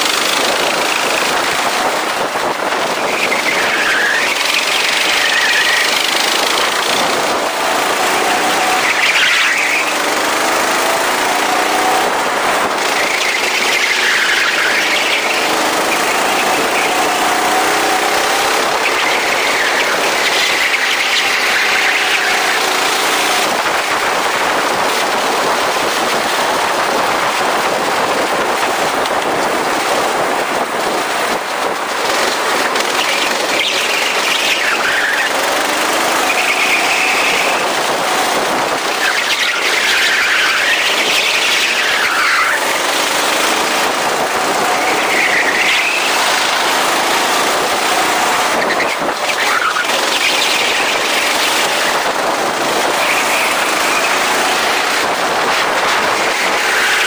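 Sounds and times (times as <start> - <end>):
go-kart engine: 0.0 - 57.0
high tire squeals: 0.0 - 57.0.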